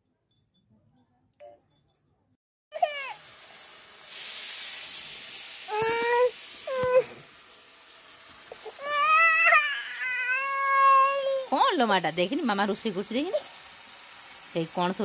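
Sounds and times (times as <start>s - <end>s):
tomatoes sizzling in a wok: 2.7s - 15.0s.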